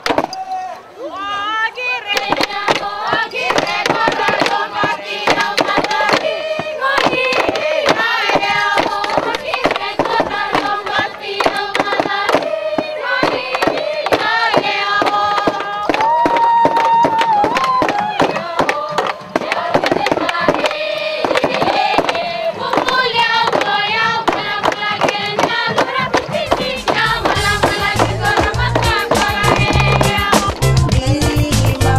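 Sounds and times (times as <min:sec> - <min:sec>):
group singing in unison: 0:01.8 - 0:31.9
sharp percussive strikes: 0:02.2 - 0:31.9.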